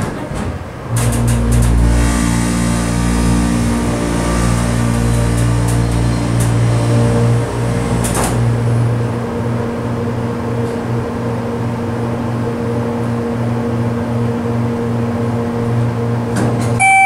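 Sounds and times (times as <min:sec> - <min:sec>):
elevator pump motor humming: 0:00.7 - 0:17.0.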